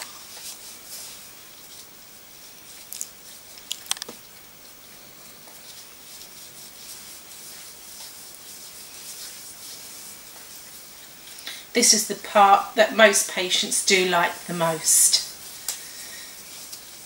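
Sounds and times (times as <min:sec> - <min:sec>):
gloved hands rubbing skin: 0:00.0 - 0:11.4, 0:14.4 - 0:17.0.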